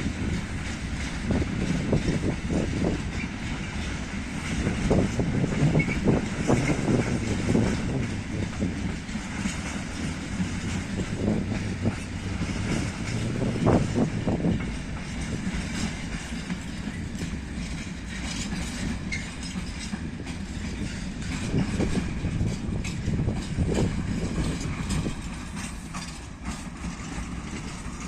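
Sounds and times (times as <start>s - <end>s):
train rumbling past: 0.0s - 28.0s
wheels clacking over rails: 0.0s - 28.0s.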